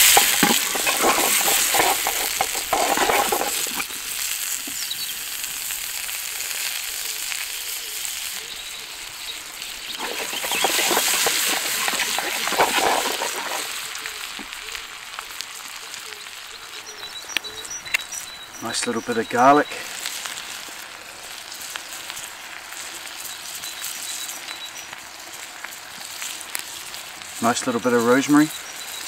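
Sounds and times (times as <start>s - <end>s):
potatoes sizzling in a frying pan: 0.0s - 29.0s.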